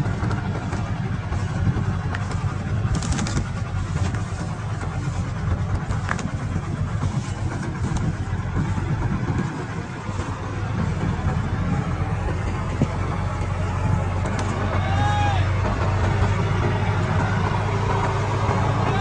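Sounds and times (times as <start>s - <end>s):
combine harvester engine rumbling: 0.0s - 19.0s.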